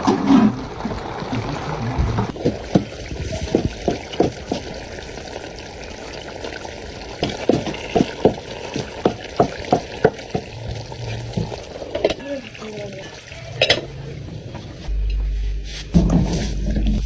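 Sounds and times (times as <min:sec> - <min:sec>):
liquid trickle: 0:00.0 - 0:14.9.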